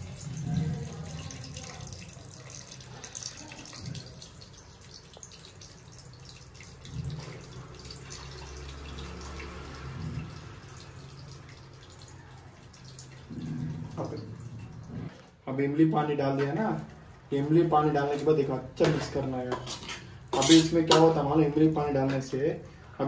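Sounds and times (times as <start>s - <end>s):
liquid trickling and dripping: 0.0s - 15.4s, 16.0s - 23.0s.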